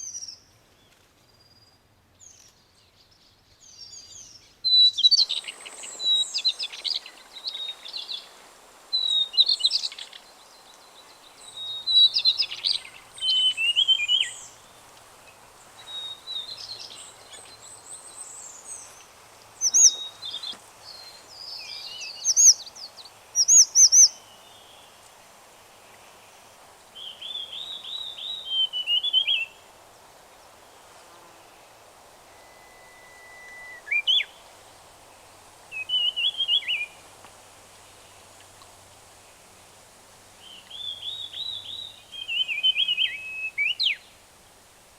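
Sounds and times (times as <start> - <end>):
songbirds singing: 0.0 - 44.7.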